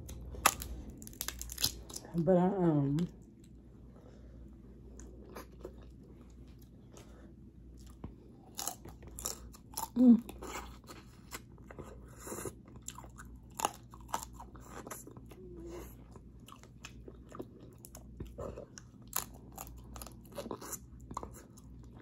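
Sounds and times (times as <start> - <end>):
chewing and crunching: 0.0 - 2.2, 4.4 - 22.0.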